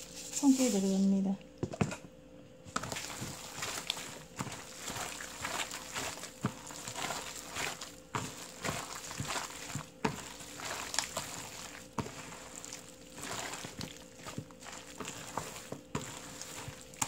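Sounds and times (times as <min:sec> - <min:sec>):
wet cabbage squelching and slapping: 0:02.7 - 0:17.0.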